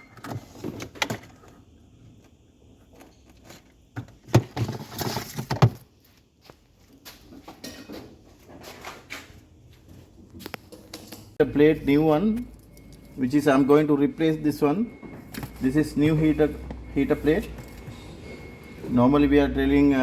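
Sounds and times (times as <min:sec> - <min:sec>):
refrigerator parts clicking and rattling: 0:00.0 - 0:06.0, 0:06.9 - 0:09.6, 0:10.3 - 0:18.8.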